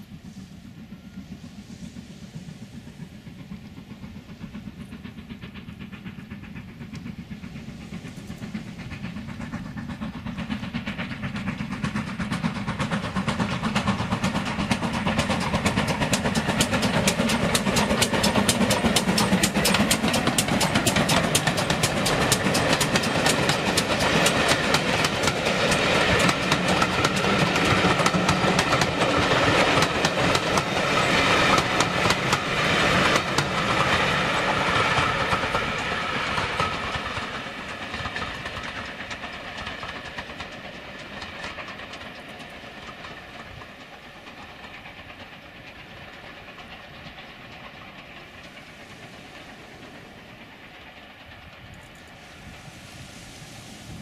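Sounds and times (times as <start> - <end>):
steam train running: 0.0 - 54.0.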